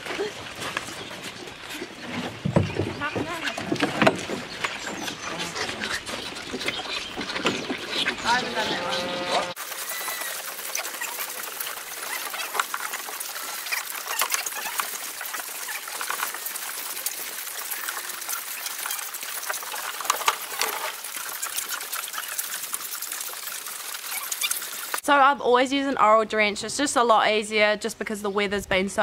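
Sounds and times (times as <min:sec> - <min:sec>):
calves slurping milk: 0:00.0 - 0:25.0.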